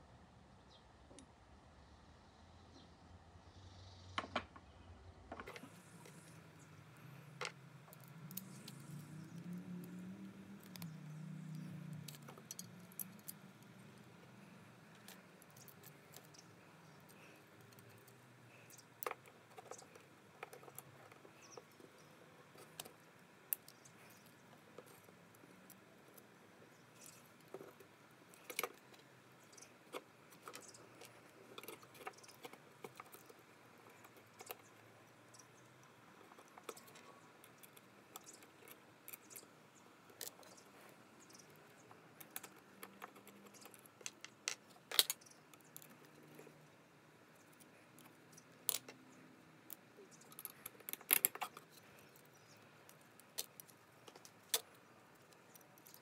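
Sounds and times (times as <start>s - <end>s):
small metal parts clicking: 5.4s - 46.7s, 47.3s - 56.0s.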